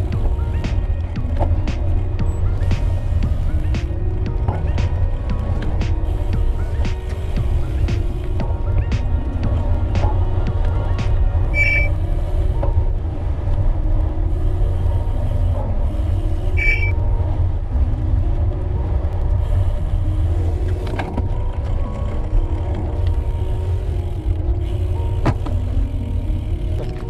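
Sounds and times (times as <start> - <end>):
background music: 0.0 - 27.0
wind rumble on microphone: 0.0 - 27.0.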